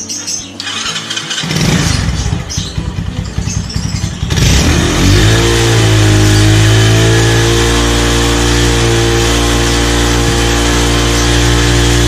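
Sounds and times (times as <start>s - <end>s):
motorcycle engine starting: 0.6s - 12.0s.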